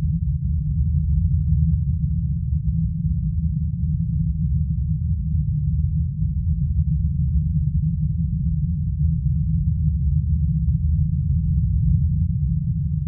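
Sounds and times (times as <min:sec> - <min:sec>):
steady low drone: 0:00.0 - 0:13.0.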